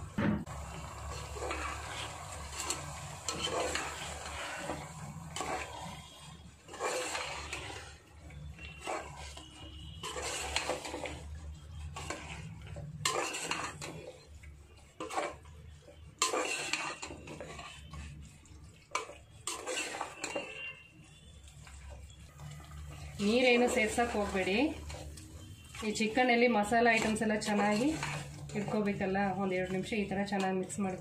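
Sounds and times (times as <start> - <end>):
metal spoon scraping a pot: 0.8 - 31.0.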